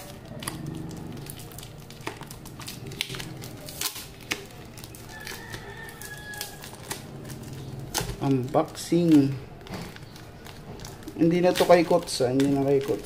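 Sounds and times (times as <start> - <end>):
packing tape peeled and torn: 0.0 - 13.0
plastic packing crinkling: 0.0 - 13.0.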